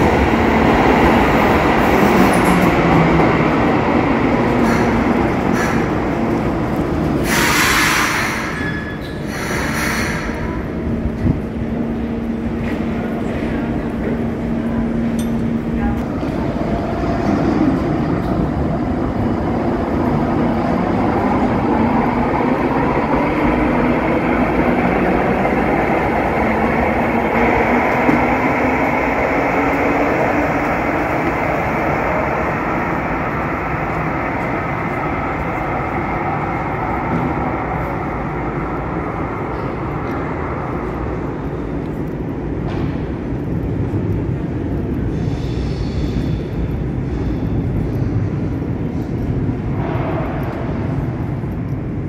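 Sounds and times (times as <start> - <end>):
train rumbling on rails: 0.0 - 52.0.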